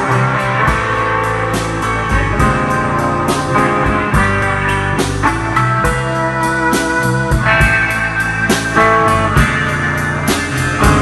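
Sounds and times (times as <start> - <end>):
drum kit beat: 0.0 - 11.0
electric bass: 0.0 - 11.0
electric guitar: 0.0 - 11.0.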